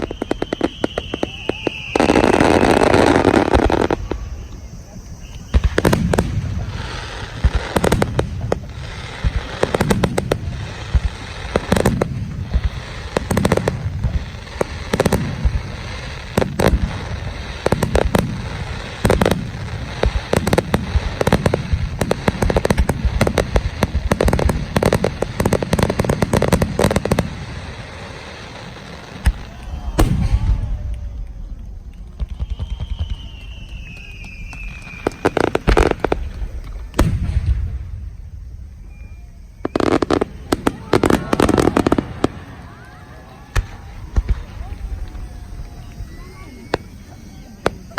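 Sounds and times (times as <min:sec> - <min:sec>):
fireworks booming and crackling: 0:00.0 - 0:47.9.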